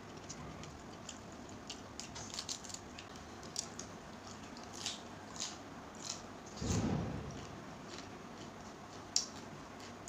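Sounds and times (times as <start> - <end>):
food being chewed: 0.0 - 10.0.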